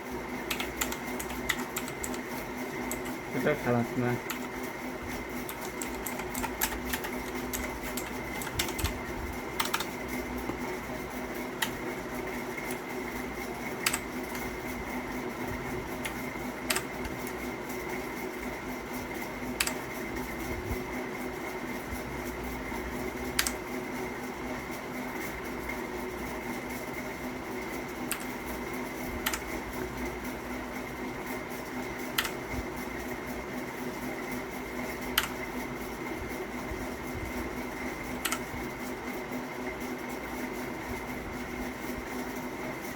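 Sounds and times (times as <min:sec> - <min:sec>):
steady background hum: 0:00.0 - 0:42.9.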